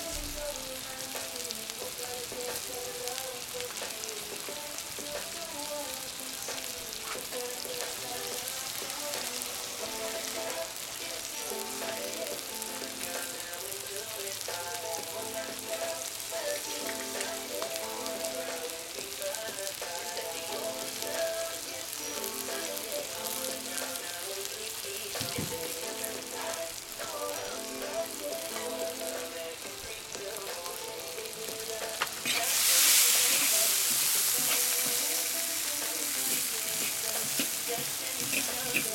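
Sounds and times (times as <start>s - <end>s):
meat and carrots sizzling in oil: 0.0s - 38.9s.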